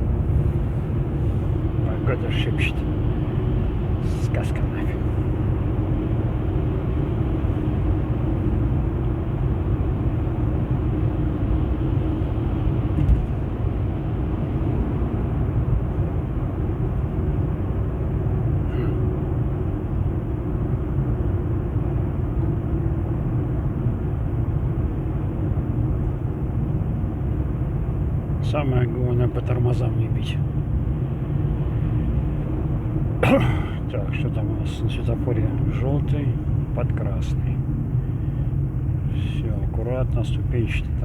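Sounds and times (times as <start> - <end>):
car engine and road noise: 0.0 - 41.0
faint steady hum: 0.0 - 41.0.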